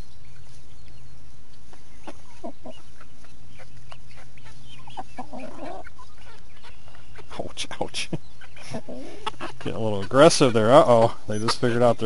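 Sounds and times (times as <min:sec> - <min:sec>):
hens clucking: 0:01.4 - 0:12.0.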